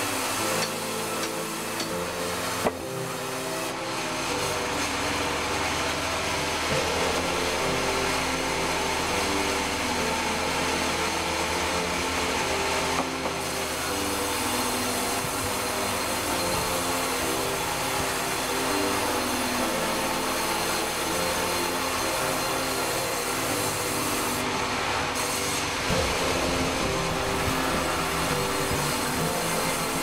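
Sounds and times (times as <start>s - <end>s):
band saw cutting log: 0.0s - 30.0s.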